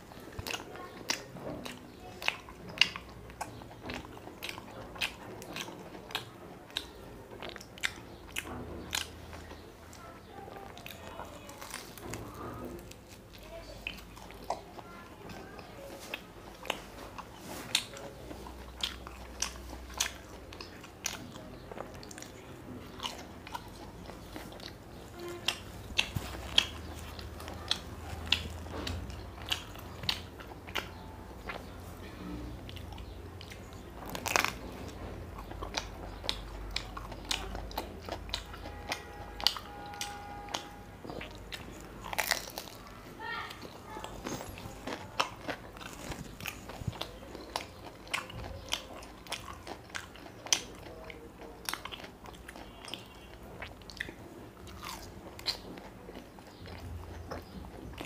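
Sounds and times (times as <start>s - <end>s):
man chewing with wet smacks: 0.0s - 58.0s.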